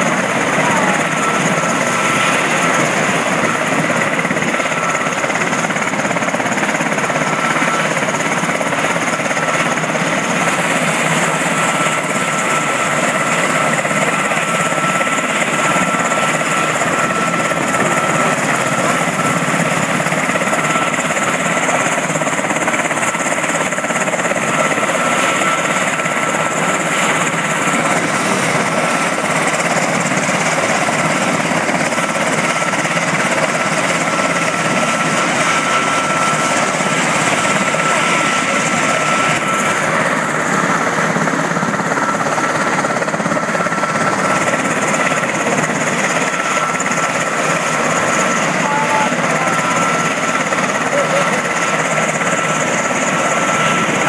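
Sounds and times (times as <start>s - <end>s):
helicopter engine and rotor noise: 0.0s - 54.0s
high turbine whine: 0.0s - 54.0s.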